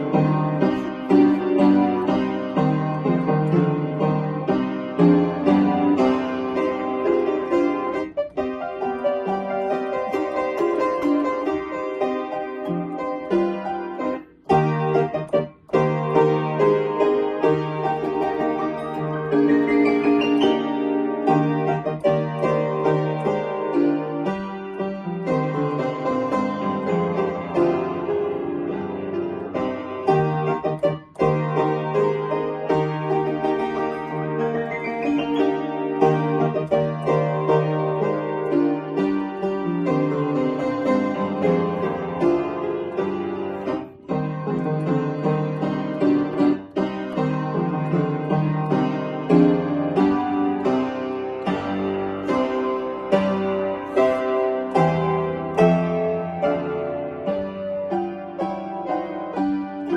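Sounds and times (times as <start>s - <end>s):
piano melody with chords: 0.0s - 59.9s.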